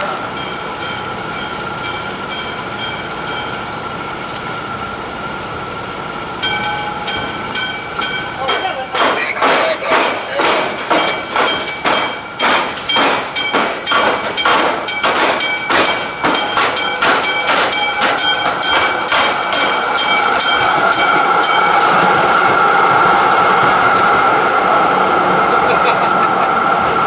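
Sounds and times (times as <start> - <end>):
train wheels clacking over rails: 0.0 - 27.0.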